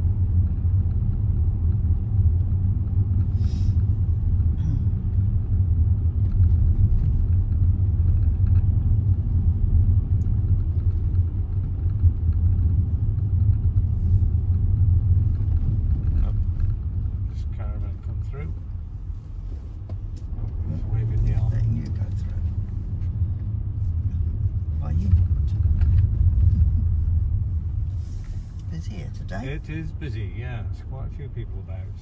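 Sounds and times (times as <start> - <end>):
car engine rumble from inside cabin: 0.0 - 32.0.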